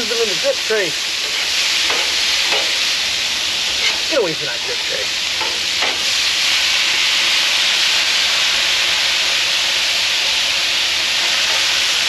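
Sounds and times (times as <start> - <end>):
potatoes sizzling on griddle: 0.0 - 12.0.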